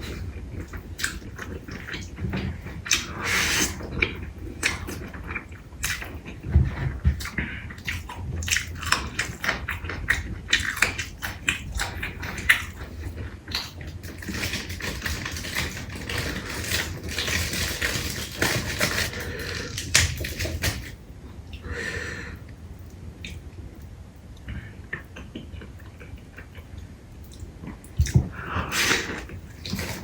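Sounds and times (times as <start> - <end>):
person chewing crunchy food: 0.0 - 21.6, 25.0 - 30.0.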